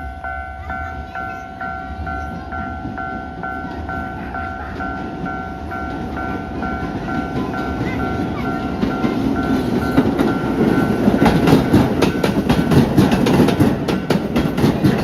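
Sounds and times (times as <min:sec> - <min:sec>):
train rumble: 0:00.0 - 0:15.0
two-tone crossing bell: 0:00.0 - 0:15.0.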